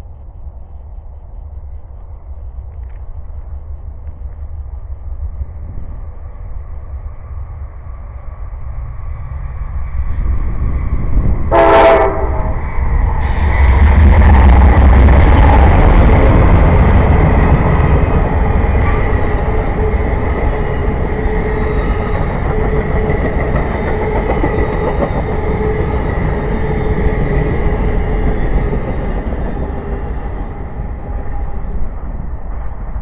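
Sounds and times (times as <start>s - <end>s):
diesel locomotive engine: 0.0s - 33.0s
train wheels on rails: 0.0s - 33.0s.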